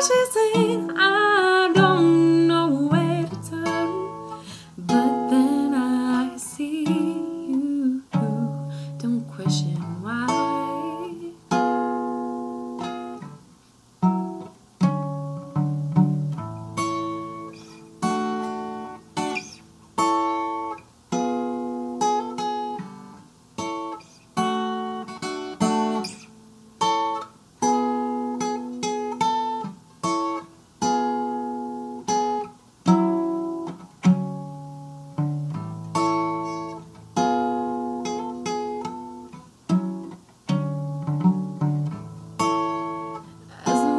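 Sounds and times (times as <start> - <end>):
acoustic guitar chords: 0.0 - 43.9.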